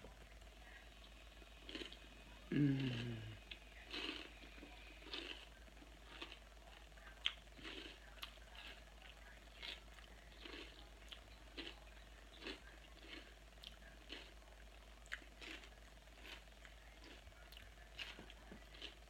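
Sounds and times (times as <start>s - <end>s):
faint steady hum: 0.0s - 19.0s
chewing crunchy salad: 0.7s - 19.0s.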